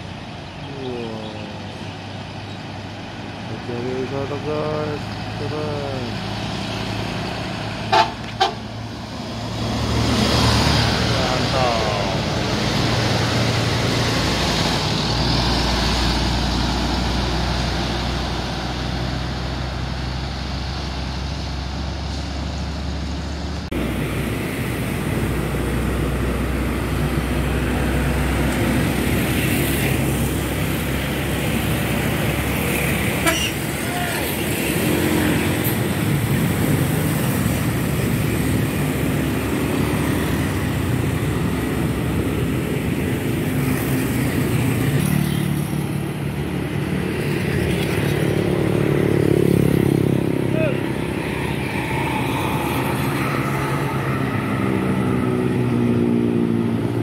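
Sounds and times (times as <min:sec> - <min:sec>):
bus engine droning: 0:00.0 - 0:57.0
motorcycles passing: 0:00.0 - 0:57.0
trucks passing: 0:00.0 - 0:57.0.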